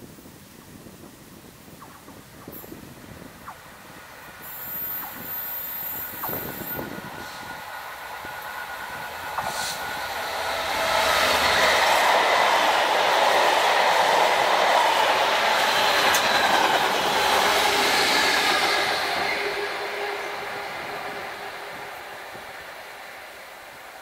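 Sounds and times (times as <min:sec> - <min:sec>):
diesel locomotive passing: 0:03.8 - 0:24.0
train wheels rumbling and rattling: 0:04.4 - 0:24.0.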